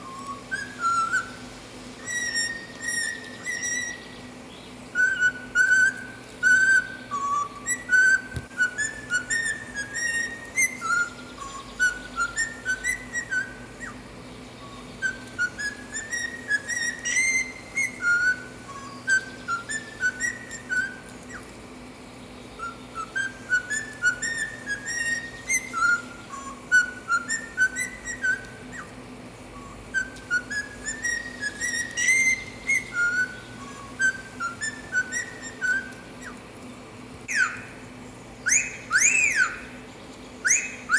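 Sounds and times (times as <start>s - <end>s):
cockatiel whistling a tune: 0.0s - 4.3s, 4.9s - 14.0s, 14.6s - 21.5s, 22.6s - 36.4s, 37.3s - 37.8s, 38.4s - 39.8s, 40.4s - 40.9s.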